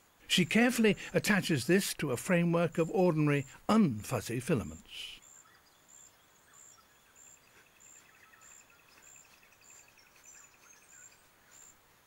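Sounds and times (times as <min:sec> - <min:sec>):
insect high chirp: 0:00.1 - 0:11.9.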